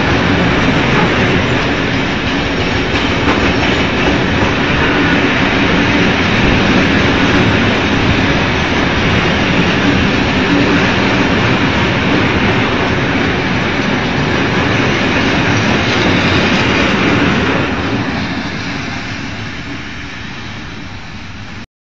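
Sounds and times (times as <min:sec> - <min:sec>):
freight wagons rolling on rails: 0:00.0 - 0:21.6.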